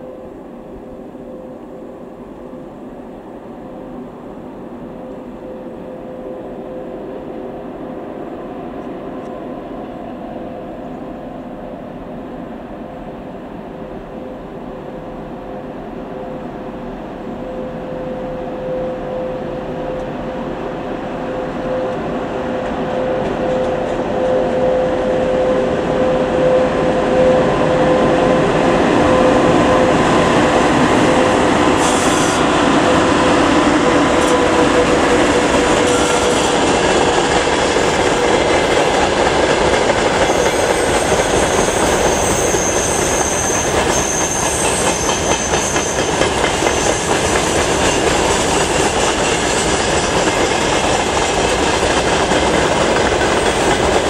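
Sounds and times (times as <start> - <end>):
electric locomotive passing: 0.0 - 54.0.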